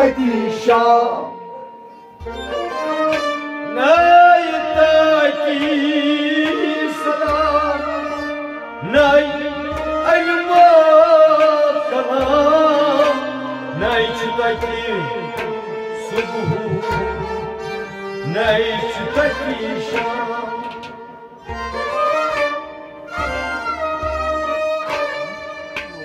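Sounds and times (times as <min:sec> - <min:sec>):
tabla drumming: 0:02.2 - 0:26.0.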